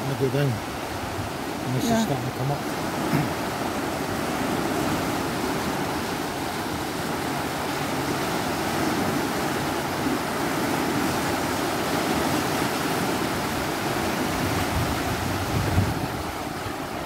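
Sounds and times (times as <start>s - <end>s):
water rushing through lock gate: 0.0s - 17.0s.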